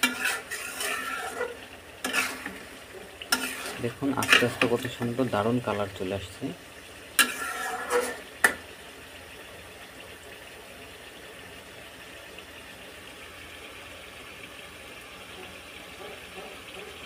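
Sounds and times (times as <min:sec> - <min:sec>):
curry sizzling in pan: 0:00.0 - 0:17.0.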